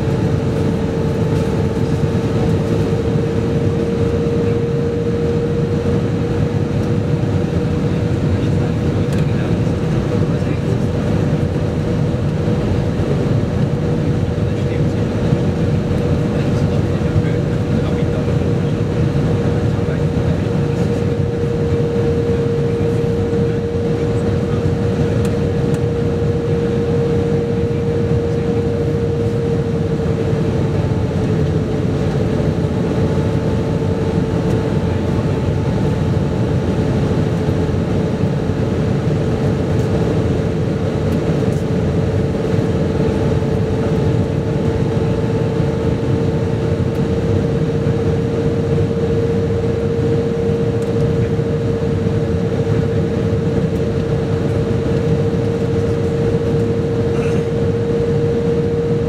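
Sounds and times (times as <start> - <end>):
aircraft cabin air and engine noise: 0.0 - 59.0.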